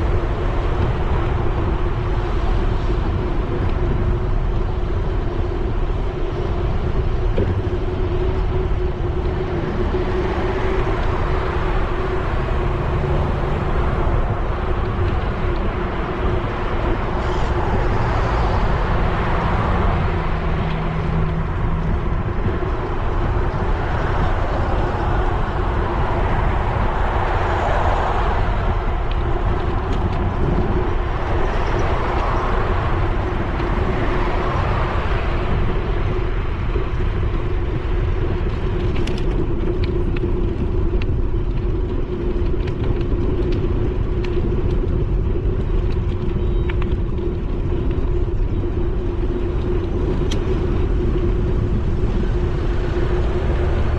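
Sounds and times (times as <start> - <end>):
bicycle riding rumble: 0.0 - 53.9
cars passing: 0.0 - 53.9
wind on microphone: 0.0 - 53.9.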